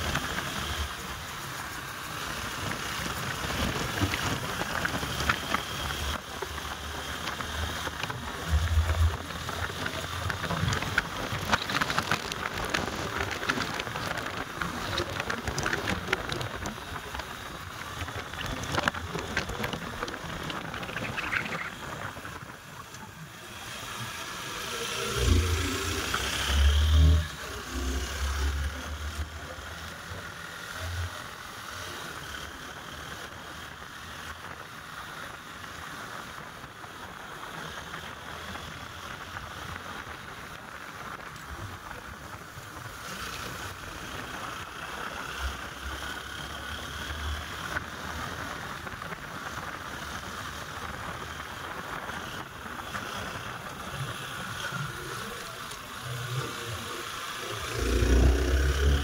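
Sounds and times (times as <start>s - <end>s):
motorcycle wind and road noise: 0.0s - 59.0s.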